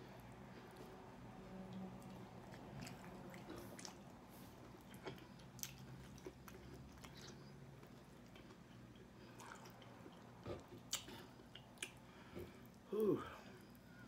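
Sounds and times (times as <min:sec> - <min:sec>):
low steady hum: 0:00.0 - 0:14.0
wet chewing and lip-smacking: 0:00.5 - 0:12.8.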